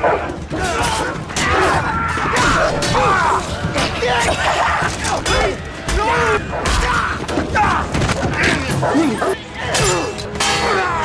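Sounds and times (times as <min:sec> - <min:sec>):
grunts and groans of effort: 0:00.0 - 0:11.0.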